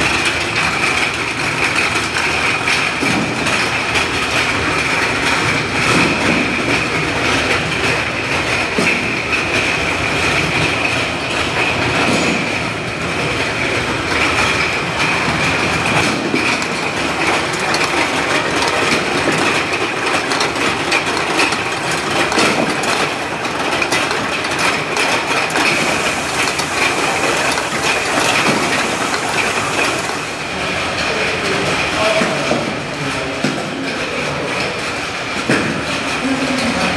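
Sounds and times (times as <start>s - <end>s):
plastic bottles clattering: 0.0s - 36.9s.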